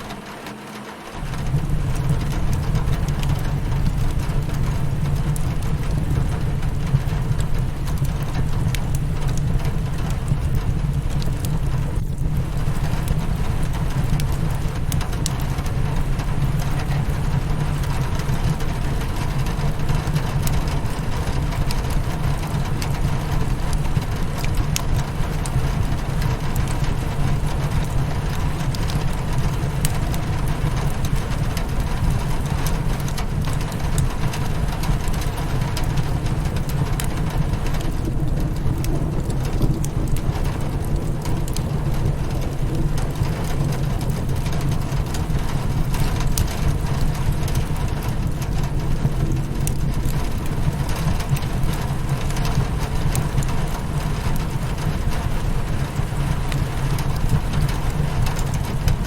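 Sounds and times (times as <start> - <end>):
rain on a window: 0.0 - 59.0
fireplace crackling: 1.1 - 59.0.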